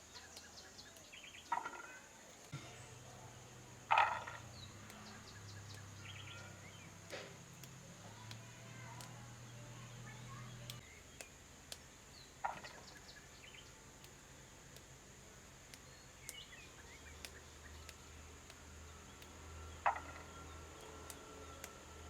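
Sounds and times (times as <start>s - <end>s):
low steady hum: 2.5s - 22.0s
faint clicks: 3.9s - 22.0s.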